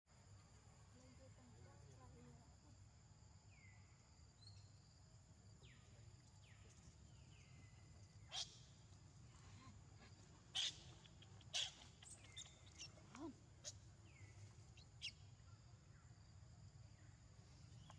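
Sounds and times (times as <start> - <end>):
faint insect drone: 0.1 - 17.9.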